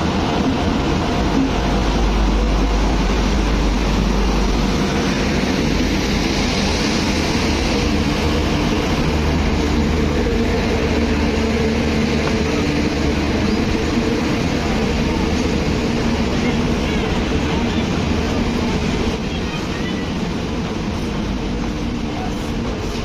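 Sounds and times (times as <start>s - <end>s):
train coaches rumbling and rattling: 0.0s - 23.0s.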